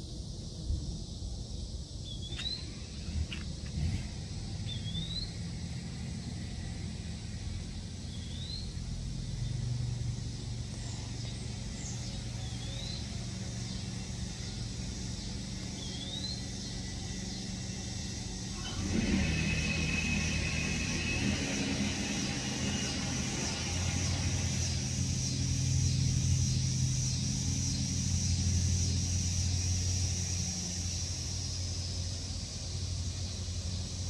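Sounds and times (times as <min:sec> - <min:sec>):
steady low rumble: 0:00.0 - 0:34.0
bird rising chirp: 0:02.0 - 0:30.2.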